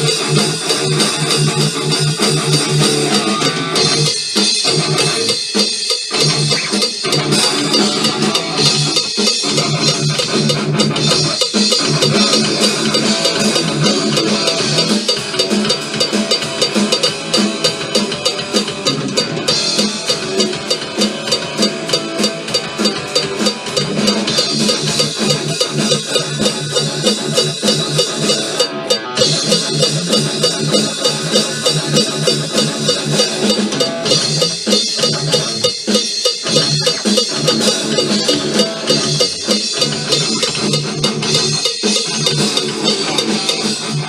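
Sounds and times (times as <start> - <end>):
drum kit with cymbals: 0.0 - 44.0
electric guitar: 0.0 - 44.0
fast rock music: 0.0 - 44.0.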